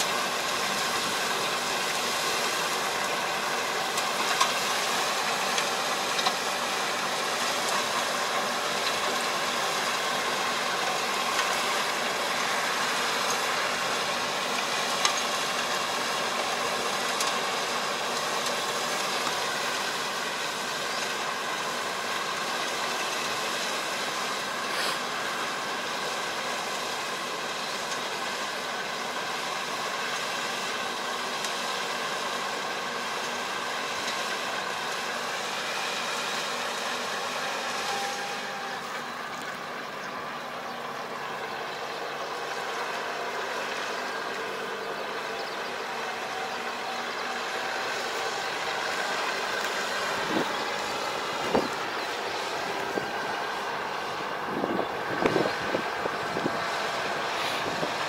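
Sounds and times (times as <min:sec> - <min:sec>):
distant tractor engine: 0:00.0 - 0:58.0.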